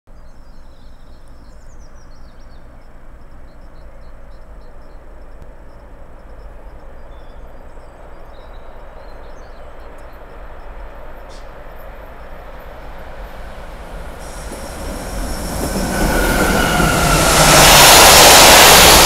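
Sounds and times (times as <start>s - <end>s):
birds chirping: 0.1s - 19.0s
distant train rumble: 0.2s - 19.0s.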